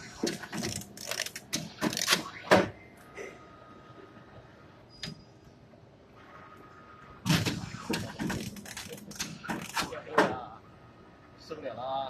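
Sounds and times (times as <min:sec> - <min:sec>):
faint steady machine whine: 0:00.0 - 0:12.0.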